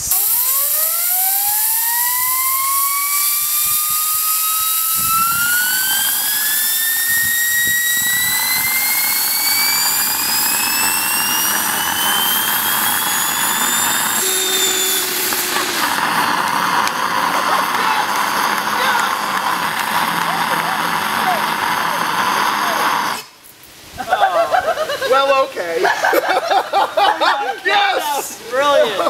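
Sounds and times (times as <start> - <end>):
rushing combustion noise: 0.0 - 23.4
turbine grinding roughly: 0.0 - 23.4
turbine whine rising in pitch: 0.0 - 23.4.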